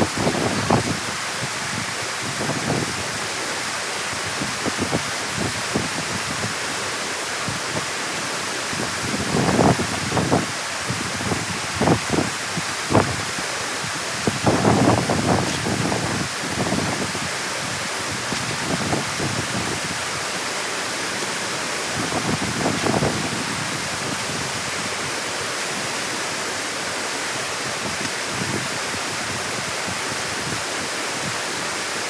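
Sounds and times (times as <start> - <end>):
water rushing through dam: 0.0 - 32.0
water sloshing surges: 6.0 - 32.0.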